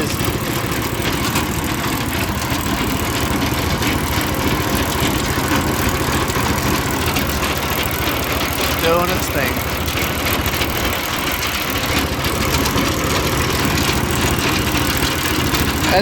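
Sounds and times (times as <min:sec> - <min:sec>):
small petrol engine running: 0:00.0 - 0:16.0.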